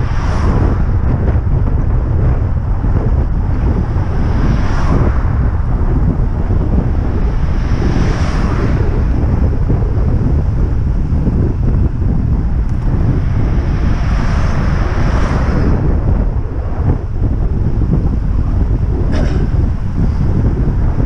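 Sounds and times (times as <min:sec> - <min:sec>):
car passing: 0:00.0 - 0:21.0
wind buffeting microphone: 0:00.0 - 0:21.0.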